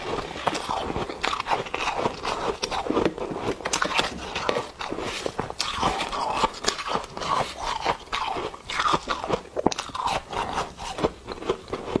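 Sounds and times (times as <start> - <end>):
person chewing crunchy ice: 0.0 - 12.0.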